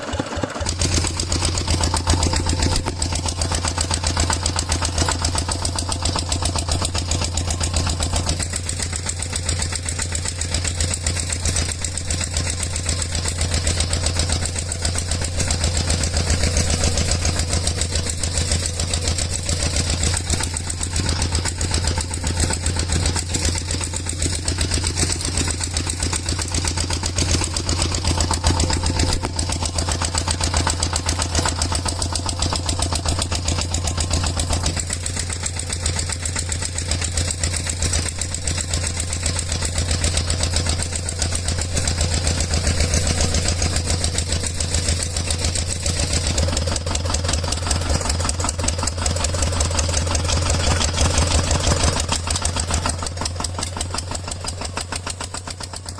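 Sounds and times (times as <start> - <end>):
tractor engine chugging: 0.0 - 55.9.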